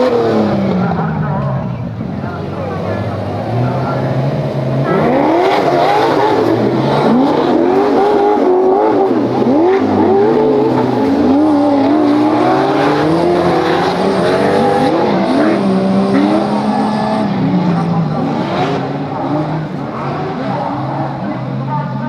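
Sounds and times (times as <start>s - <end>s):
off-road engines revving: 0.0s - 22.0s.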